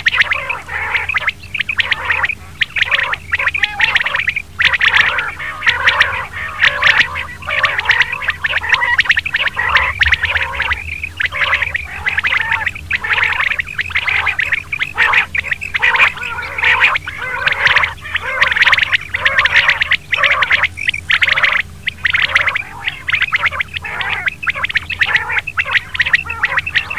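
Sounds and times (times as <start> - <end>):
faint steady hum: 0.0 - 26.9
quail calls: 0.0 - 26.9.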